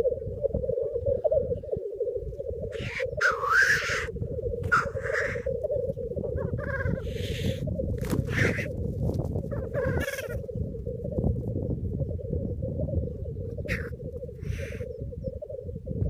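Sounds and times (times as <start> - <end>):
black grouse bubbling cooing chorus: 0.0 - 16.0.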